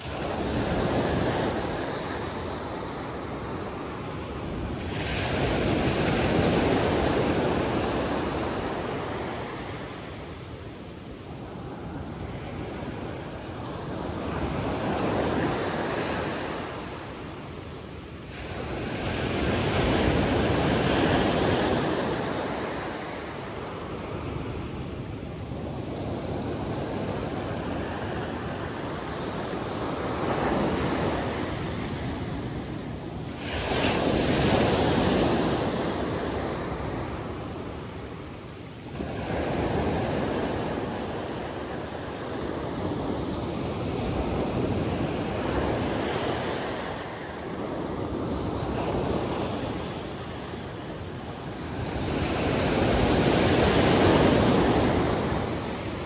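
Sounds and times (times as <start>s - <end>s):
sea waves washing in: 0.0s - 56.0s.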